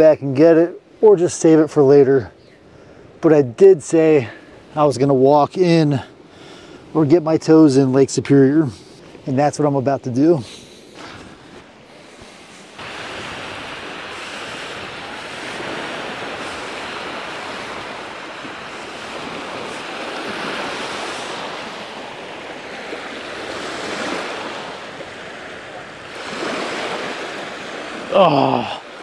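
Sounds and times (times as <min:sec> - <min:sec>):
waves washing onto shore: 0:03.8 - 0:29.0.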